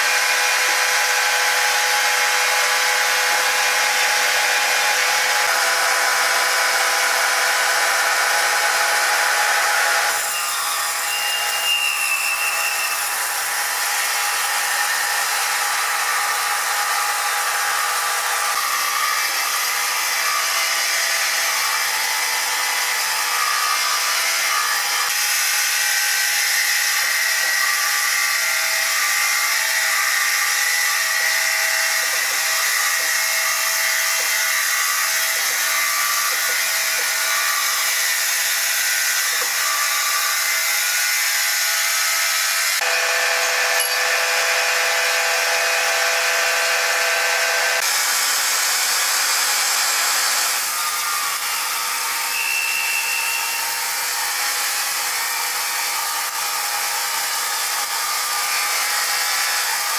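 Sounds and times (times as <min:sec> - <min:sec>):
sawmill saw cutting wood: 0:00.0 - 0:59.9.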